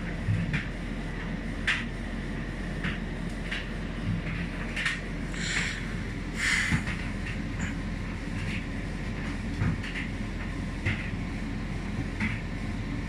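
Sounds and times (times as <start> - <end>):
tumble dryer humming: 0.0 - 13.0.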